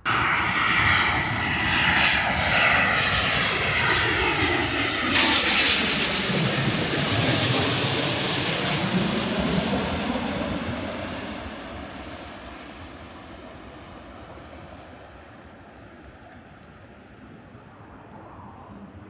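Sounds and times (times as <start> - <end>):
high jet whine: 0.0 - 19.0
jet engines rushing: 0.0 - 19.0.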